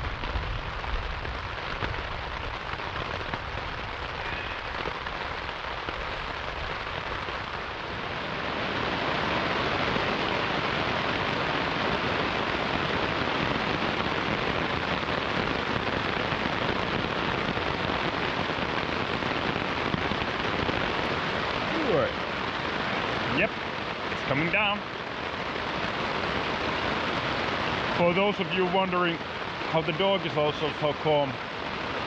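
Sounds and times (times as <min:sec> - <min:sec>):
heavy rain on tent fabric: 0:00.0 - 0:32.0.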